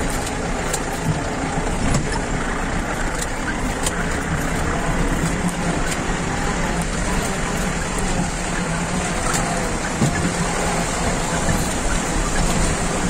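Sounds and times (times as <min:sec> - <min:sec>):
engine hum: 0:00.0 - 0:13.0
tyres crunching on gravel: 0:00.0 - 0:13.0.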